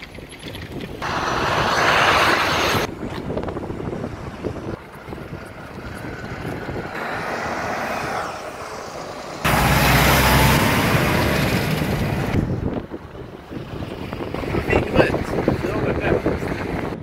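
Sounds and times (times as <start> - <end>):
diesel engine rumble: 0.0 - 17.0
trucks driving past: 1.0 - 17.0.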